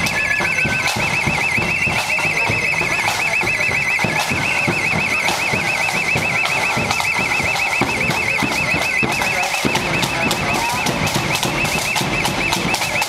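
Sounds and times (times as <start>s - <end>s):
marching band drumming: 0.0s - 13.0s
street noise: 0.0s - 13.0s
warbling electronic alarm: 0.0s - 13.0s.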